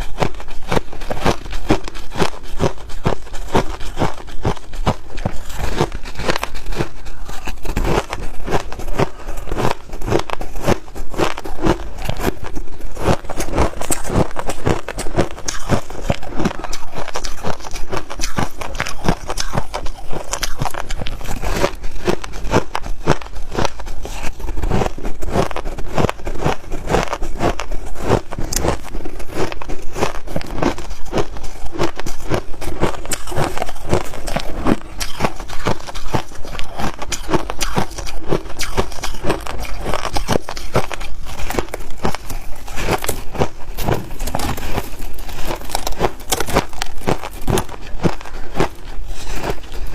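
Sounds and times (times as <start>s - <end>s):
person crunching ice: 0.0s - 49.9s.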